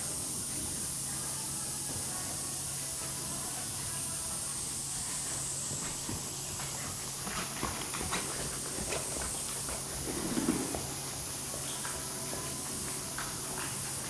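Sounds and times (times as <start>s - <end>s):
horse hoofbeats: 0.0s - 14.0s.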